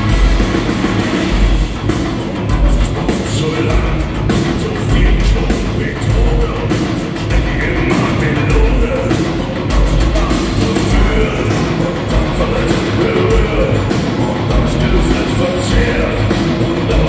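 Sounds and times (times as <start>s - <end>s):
metal band playing live: 0.0s - 17.0s
person singing: 1.9s - 17.0s.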